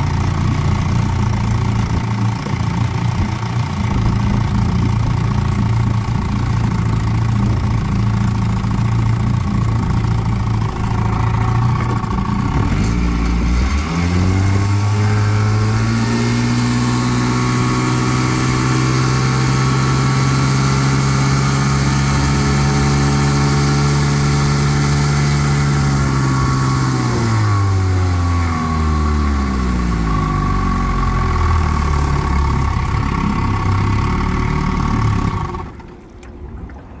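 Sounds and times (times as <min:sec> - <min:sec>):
outboard motor running: 0:00.0 - 0:37.0.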